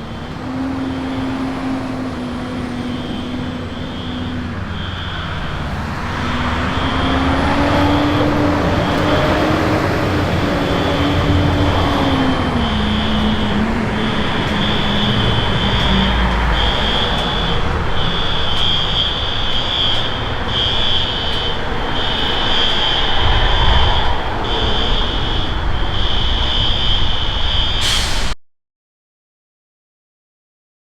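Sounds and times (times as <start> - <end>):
pulsing high-pitched tone: 0.0 - 27.9
truck engine running: 0.0 - 28.2.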